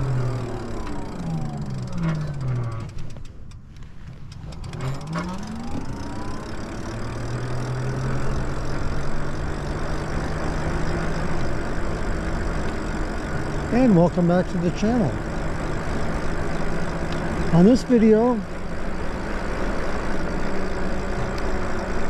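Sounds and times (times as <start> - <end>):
electric motor whine: 0.0 - 3.0, 4.5 - 22.0
wind: 0.0 - 22.0.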